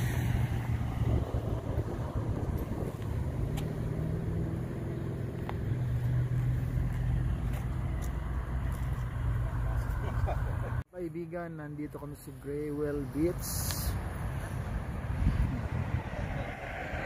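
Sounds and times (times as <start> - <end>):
highway traffic rumble: 0.0 - 17.0.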